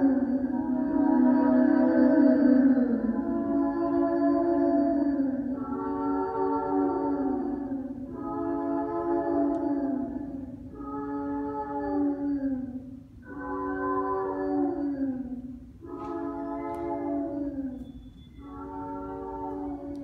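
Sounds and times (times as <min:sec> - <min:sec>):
layered voices singing chords: 0:00.0 - 0:20.0.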